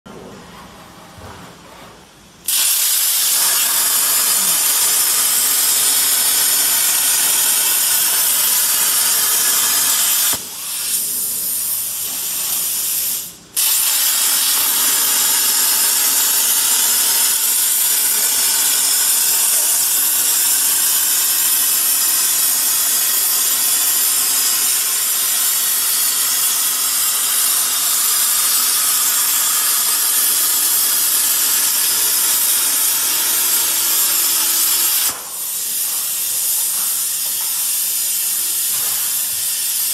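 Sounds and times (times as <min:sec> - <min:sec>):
plasma cutter hissing: 0:02.4 - 0:39.9.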